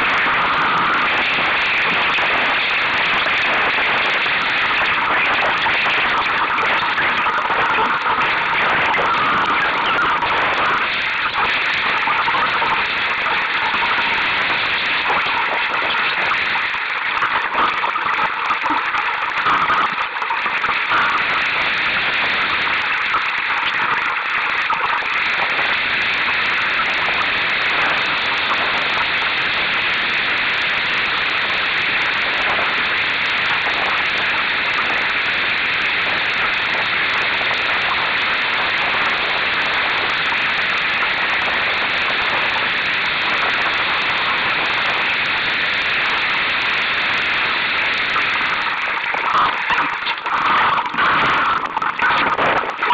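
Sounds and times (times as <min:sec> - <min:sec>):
wind and water rushing: 0:00.0 - 0:52.9.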